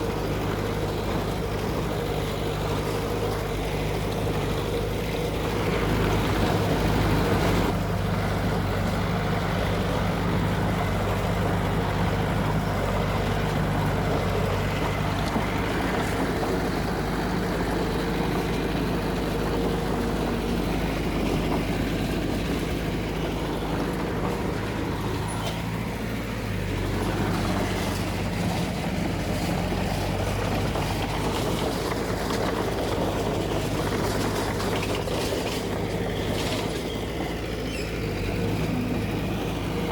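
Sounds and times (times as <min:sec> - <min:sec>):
diesel earthmoving machine running: 0:00.0 - 0:39.9.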